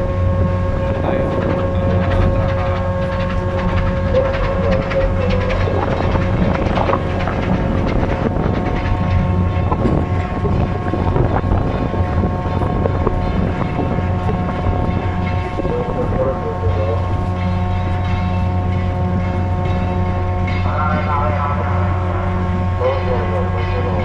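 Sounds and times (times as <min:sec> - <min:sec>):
ship diesel engines droning: 0:00.0 - 0:24.0.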